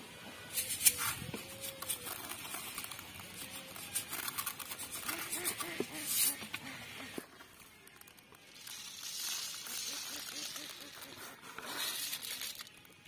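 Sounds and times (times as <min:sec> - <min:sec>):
seeds stirred in plastic bowl: 0:00.5 - 0:13.0.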